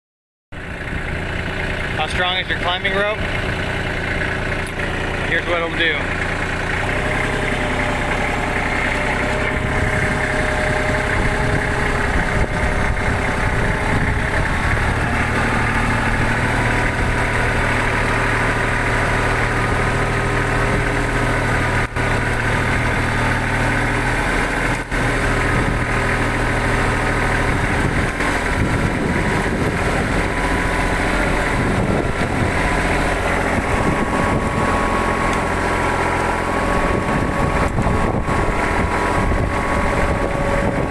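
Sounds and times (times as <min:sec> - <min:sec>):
tractor engine running: 0:00.5 - 0:40.9.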